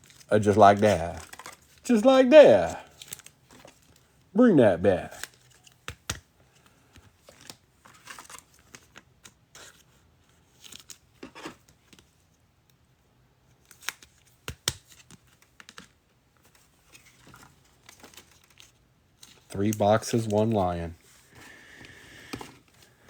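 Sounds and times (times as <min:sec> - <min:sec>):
cards and packaging rustling: 0:00.0 - 0:12.3, 0:13.6 - 0:23.0.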